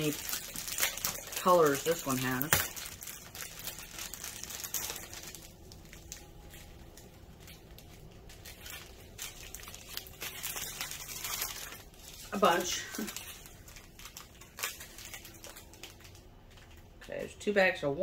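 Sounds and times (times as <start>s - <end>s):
plastic bags crinkling: 0.0s - 17.8s.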